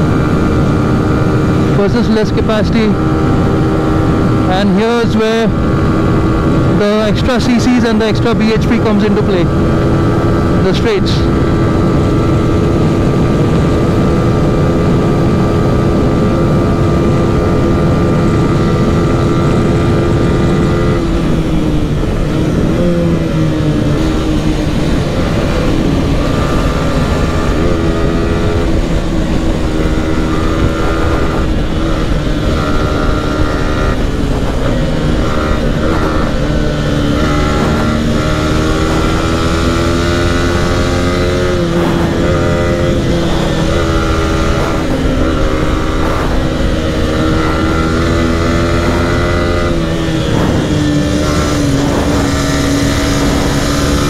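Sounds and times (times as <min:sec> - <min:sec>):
motorcycle engine revving: 0:00.0 - 0:54.0
wind rush: 0:08.8 - 0:54.0.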